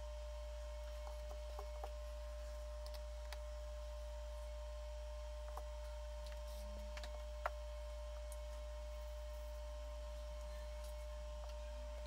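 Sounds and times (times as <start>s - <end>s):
electrical hum: 0.0s - 12.0s
thin constant whine: 0.0s - 12.0s.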